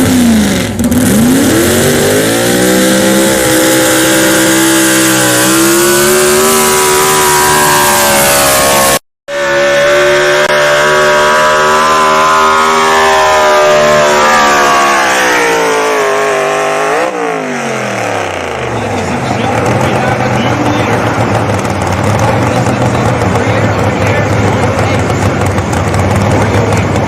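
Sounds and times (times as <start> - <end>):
truck engine running at high rpm: 0.0 - 27.0.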